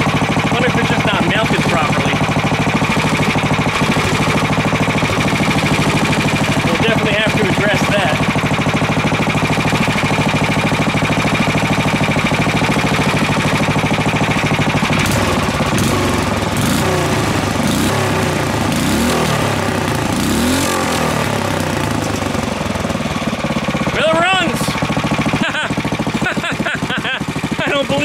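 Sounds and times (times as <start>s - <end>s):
small gas engine revving: 0.0s - 28.0s.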